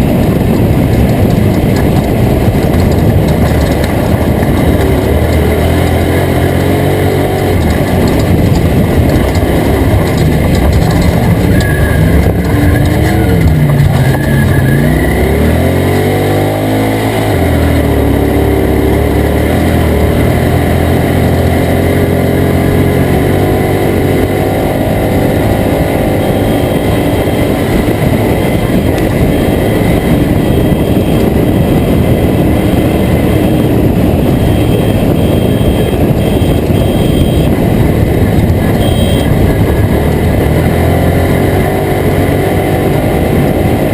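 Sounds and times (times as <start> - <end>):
steady truck noise: 0.0 - 43.9
truck engine revving: 0.0 - 43.9.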